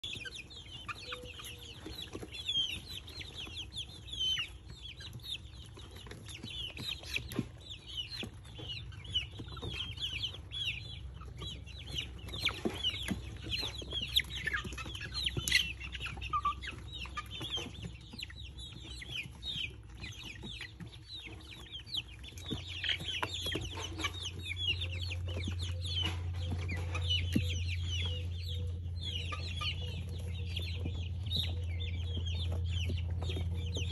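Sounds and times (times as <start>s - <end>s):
chicks peeping and chirping: 0.0s - 33.9s.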